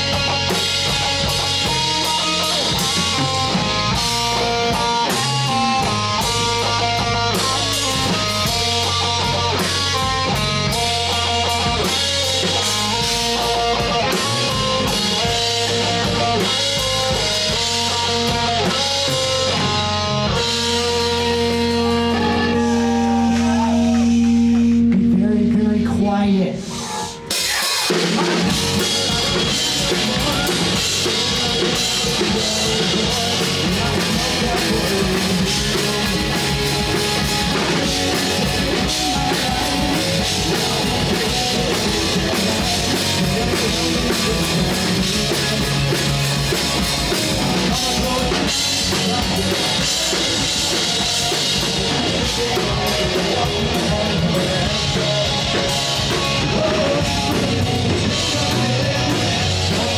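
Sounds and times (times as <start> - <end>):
drum kit with cymbals: 0.0 - 25.2, 26.6 - 59.9
distorted electric guitar: 0.0 - 59.9
electric bass: 0.0 - 59.9.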